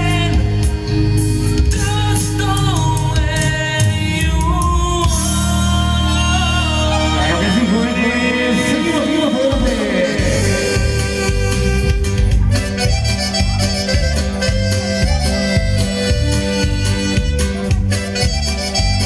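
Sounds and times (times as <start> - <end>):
bass beat: 0.0 - 19.0
latin dance music with accordion: 0.0 - 19.0.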